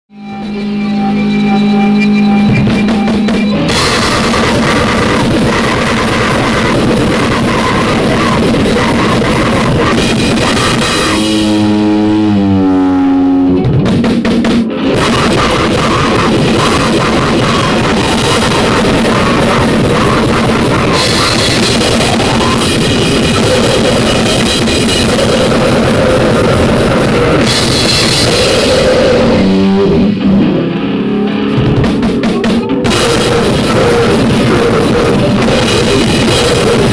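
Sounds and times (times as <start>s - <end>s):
harsh distorted noise music: 0.1s - 36.9s.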